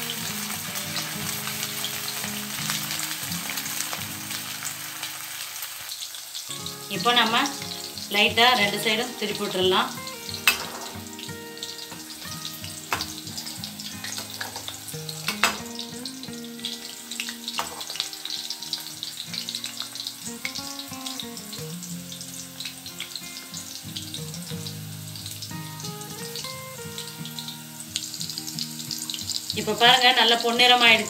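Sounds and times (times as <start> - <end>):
oil crackling sizzle: 0.0 - 31.0.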